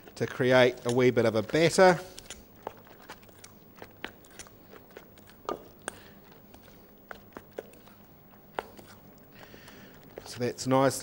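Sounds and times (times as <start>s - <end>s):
wet crunching of potato shreds: 0.0s - 11.0s.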